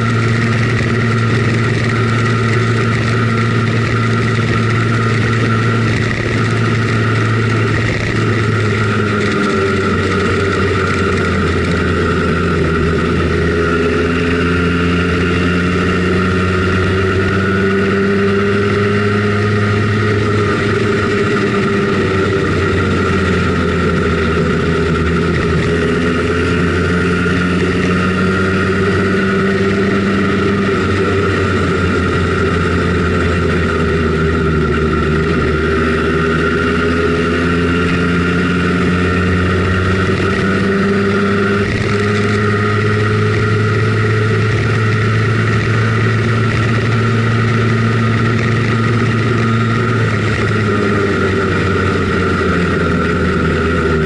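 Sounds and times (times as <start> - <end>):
scooter two-stroke engine running: 0.0 - 54.0.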